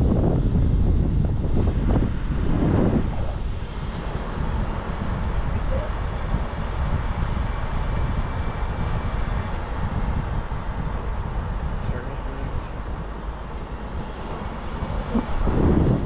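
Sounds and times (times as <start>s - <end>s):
car driving rumble: 0.0s - 16.0s
wind rushing over microphone: 0.0s - 16.0s.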